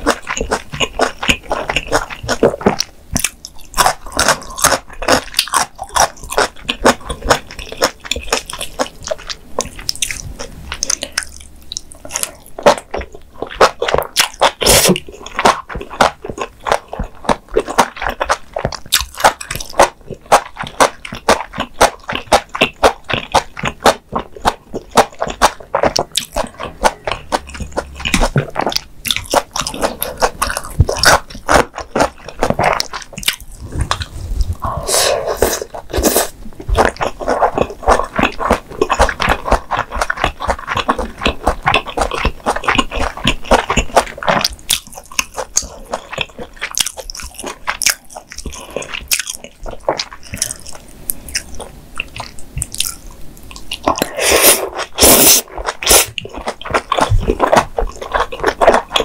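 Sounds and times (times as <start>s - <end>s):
chewing with wet mouth sounds: 0.0s - 59.0s.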